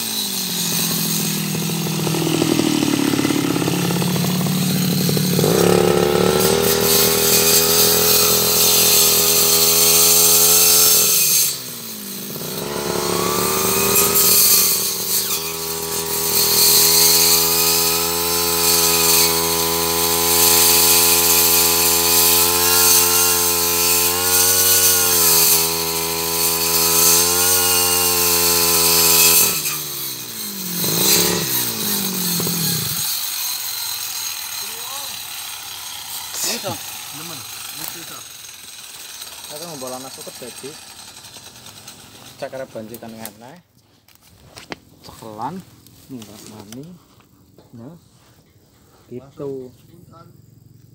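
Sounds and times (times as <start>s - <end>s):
brush cutter cutting into tree: 0.0s - 47.0s.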